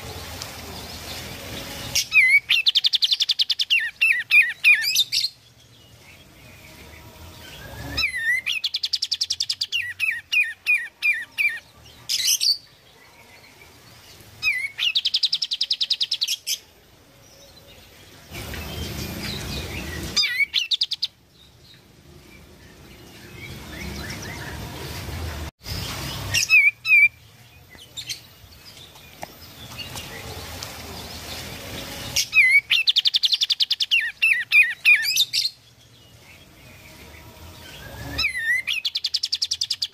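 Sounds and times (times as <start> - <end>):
bird trilling and chirping: 0.9 - 12.8, 13.7 - 16.6, 17.7 - 24.7, 25.7 - 39.9.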